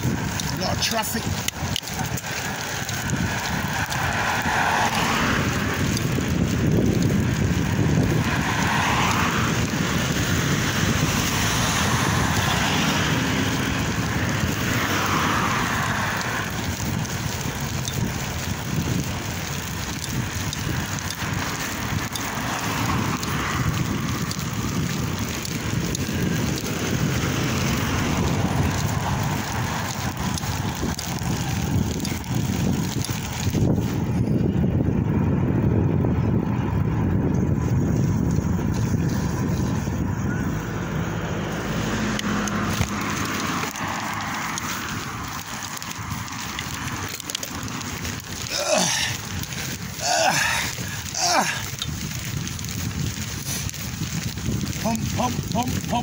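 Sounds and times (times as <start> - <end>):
road traffic passing: 0.0 - 56.0
wind noise on microphone: 0.0 - 56.0.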